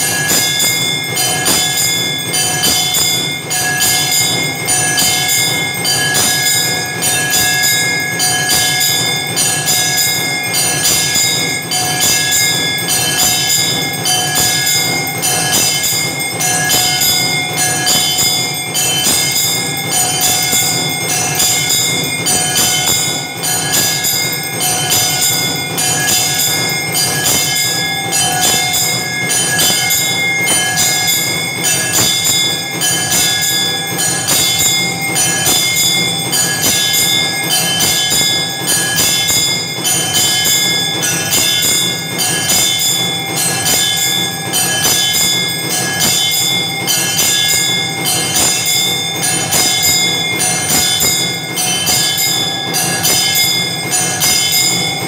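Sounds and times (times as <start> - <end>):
bells ringing and clanging: 0.0 - 55.0
held bell tone: 0.0 - 55.0.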